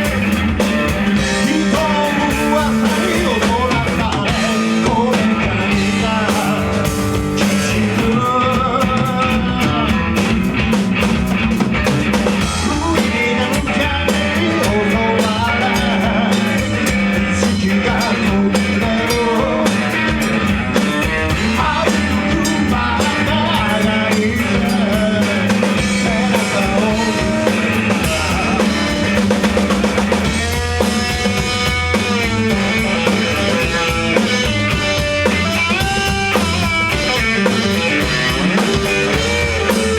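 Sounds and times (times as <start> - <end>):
rock band playing: 0.0 - 39.9
person singing: 1.1 - 10.4, 12.4 - 39.9.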